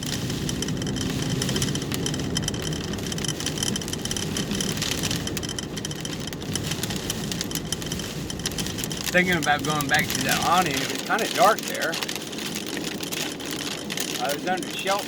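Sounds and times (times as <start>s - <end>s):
car engine running: 0.0s - 15.0s
rain ticking on car roof: 0.0s - 15.0s.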